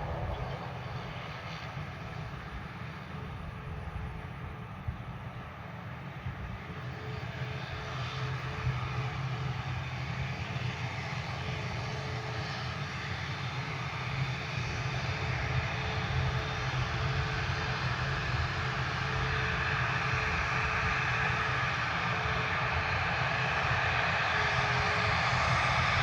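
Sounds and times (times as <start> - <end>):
aircraft engines running: 0.0 - 26.0.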